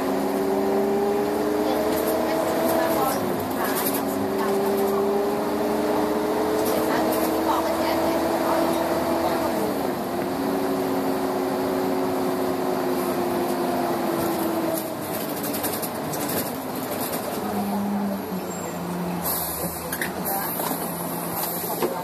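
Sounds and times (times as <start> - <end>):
bus diesel engine: 0.0 - 22.0.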